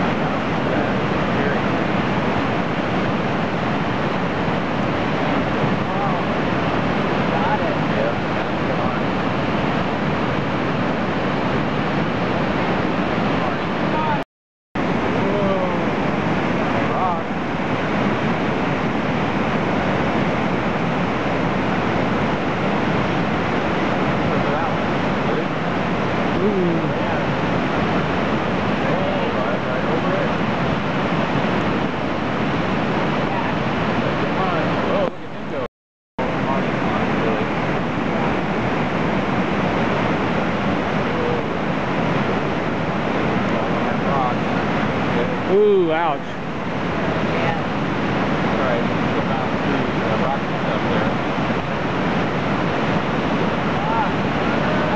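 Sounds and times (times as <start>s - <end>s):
whitewater rapid roaring: 0.0s - 14.2s, 14.8s - 54.9s.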